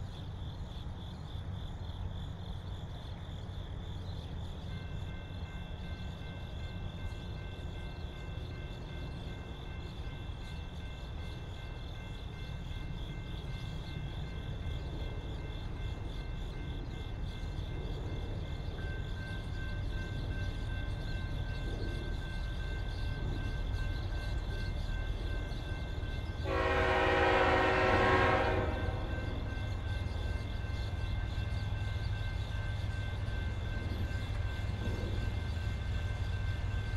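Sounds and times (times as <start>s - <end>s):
freight train low rumble: 0.0s - 36.9s.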